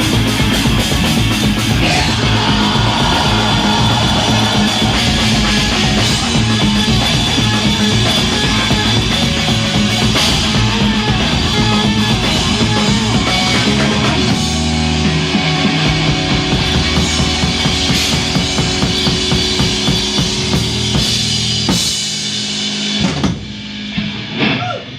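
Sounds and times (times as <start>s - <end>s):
live rock band playing: 0.0s - 24.9s.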